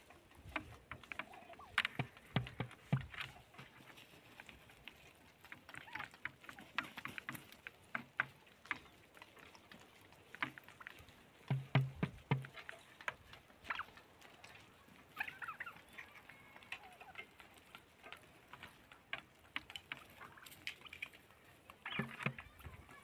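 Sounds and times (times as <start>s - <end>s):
turkeys clucking and calling: 0.0s - 23.0s.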